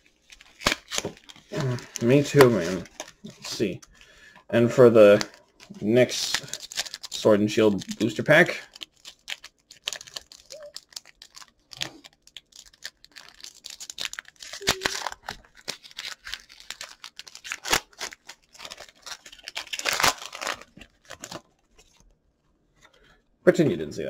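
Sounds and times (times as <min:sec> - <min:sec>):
foil wrapper tearing and crinkling: 0:00.2 - 0:04.0, 0:05.1 - 0:22.0.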